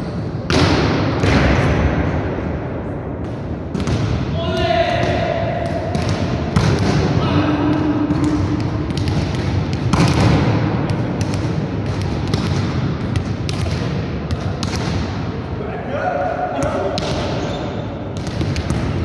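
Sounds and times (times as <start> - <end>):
volleyballs hit and landing: 0.4 - 2.1, 3.2 - 15.4, 16.6 - 19.0.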